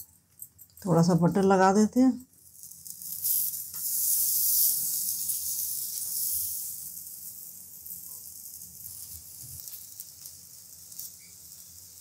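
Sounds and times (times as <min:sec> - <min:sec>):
butter sizzling on a griddle: 0:02.3 - 0:12.0.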